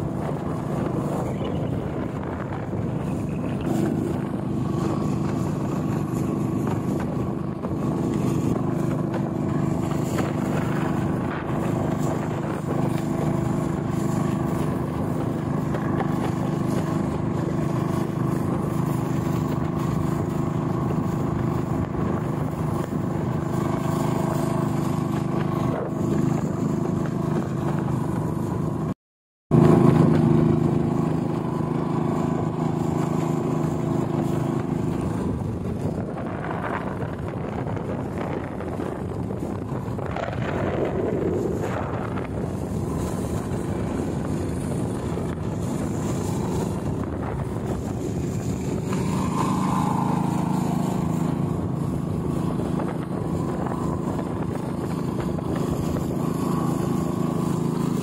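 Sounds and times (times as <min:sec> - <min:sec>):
wind rushing: 0:00.0 - 0:28.9, 0:29.5 - 0:58.0
boat engine running: 0:00.0 - 0:58.0
water rushing past hull: 0:00.0 - 0:58.0.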